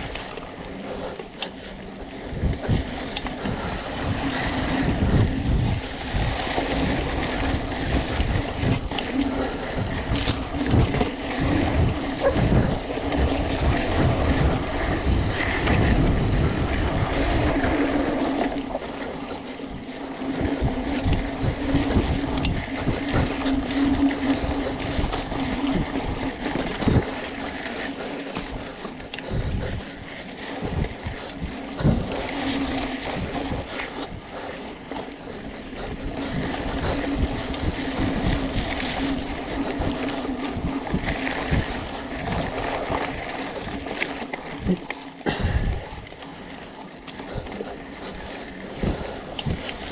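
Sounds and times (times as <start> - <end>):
bike rattling over bumps: 0.0 - 49.9
bike tyres rolling on dirt: 0.0 - 49.9
wind on microphone: 0.0 - 49.9.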